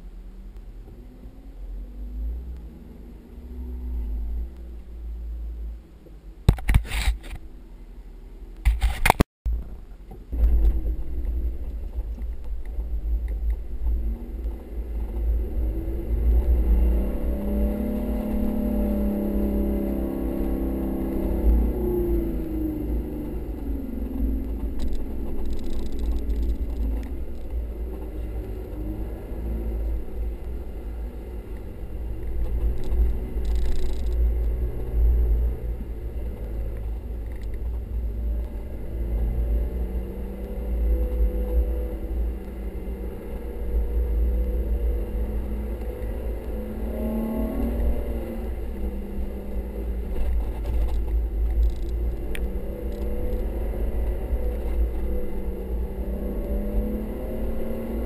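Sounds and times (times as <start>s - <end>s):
low rumble of vehicle on sand: 0.0s - 58.0s
vehicle engine revving: 0.8s - 5.3s, 10.3s - 58.0s.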